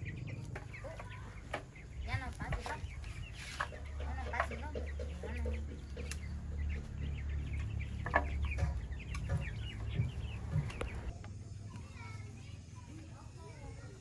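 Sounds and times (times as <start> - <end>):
chickens clucking: 0.0 - 11.2
steady low rumble: 0.0 - 11.5.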